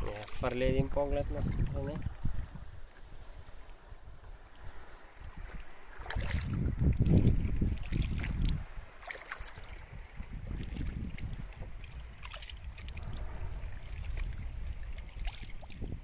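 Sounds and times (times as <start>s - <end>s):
wind rumble on microphone: 0.0s - 16.0s
water splashing off paddle: 1.5s - 16.0s.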